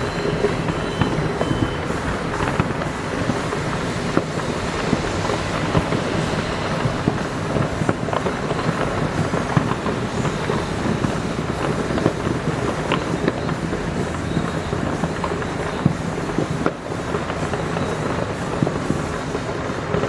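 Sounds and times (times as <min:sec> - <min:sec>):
constant rumble: 0:00.0 - 0:20.0
fireworks bangs and crackles: 0:00.0 - 0:20.0.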